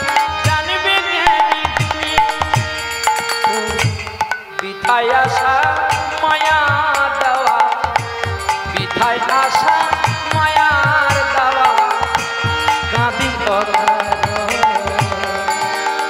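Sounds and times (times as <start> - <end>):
harmonium: 0.0 - 16.0
man singing: 0.0 - 16.0.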